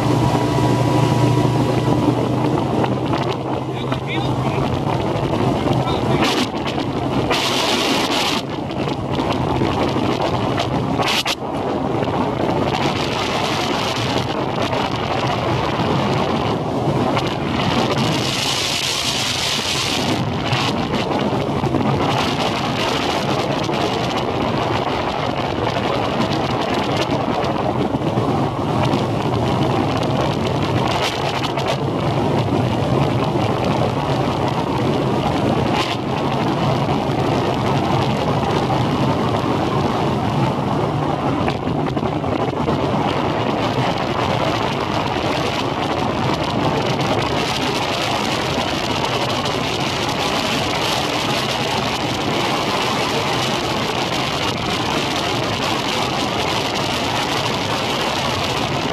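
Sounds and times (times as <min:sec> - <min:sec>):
motorboat engine running: 0:00.0 - 0:58.9
wind buffeting microphone: 0:00.0 - 0:58.9.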